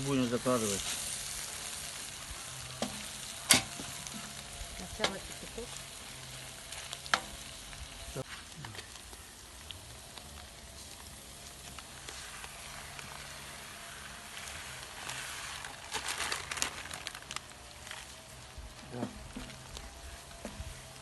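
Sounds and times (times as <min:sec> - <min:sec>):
food sizzling in a pot: 0:00.0 - 0:16.8.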